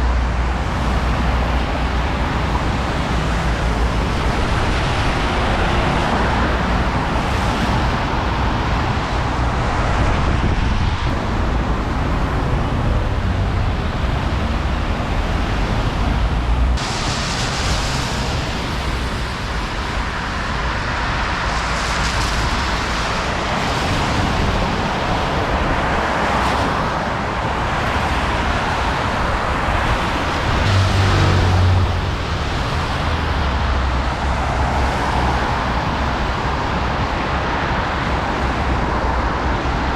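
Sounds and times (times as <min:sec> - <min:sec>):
road traffic noise: 0:00.0 - 0:39.9.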